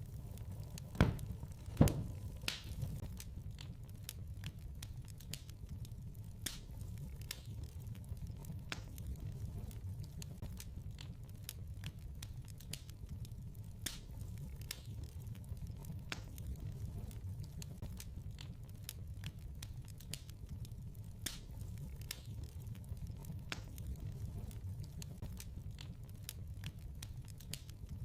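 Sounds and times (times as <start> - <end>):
low fire rumble: 0.0 - 28.0
wood fire crackling: 0.0 - 28.0.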